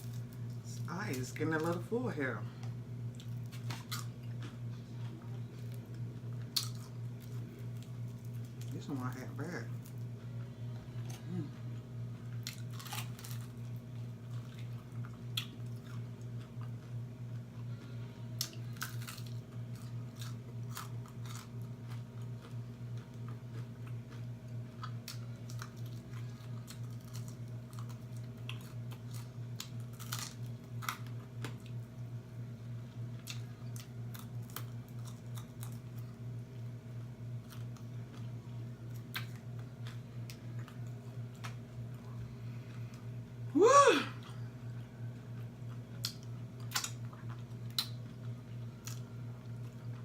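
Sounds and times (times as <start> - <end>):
steady low hum: 0.0 - 50.0
person chewing food: 2.6 - 8.8, 9.7 - 32.0, 33.0 - 43.1, 45.2 - 50.0.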